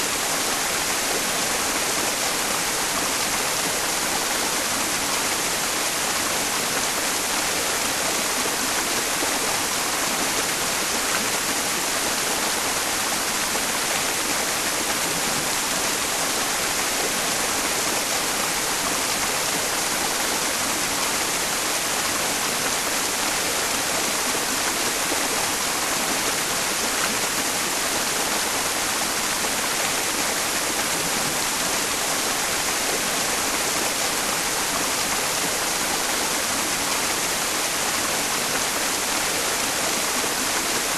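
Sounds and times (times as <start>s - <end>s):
mountain stream rushing: 0.0s - 40.9s
white noise hiss: 0.0s - 40.9s.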